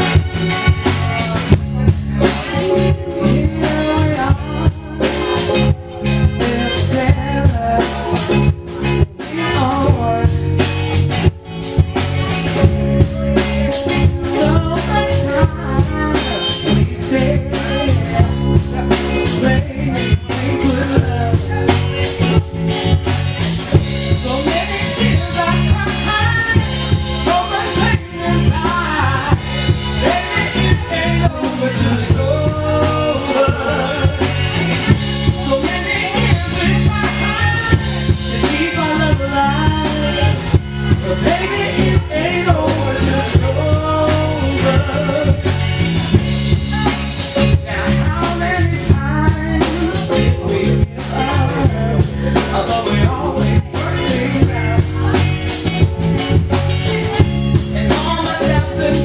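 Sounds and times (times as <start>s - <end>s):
drum kit beat: 0.0s - 59.0s
electric guitar: 0.0s - 59.0s
woman singing: 2.2s - 11.2s, 13.8s - 22.4s, 24.1s - 34.5s, 35.3s - 45.7s, 46.7s - 55.5s, 57.8s - 59.0s.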